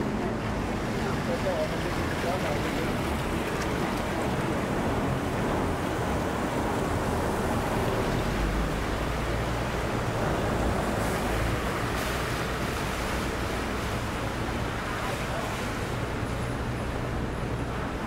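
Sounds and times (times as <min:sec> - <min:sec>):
boat diesel engine drone: 0:00.0 - 0:18.0
churning water: 0:00.0 - 0:18.0.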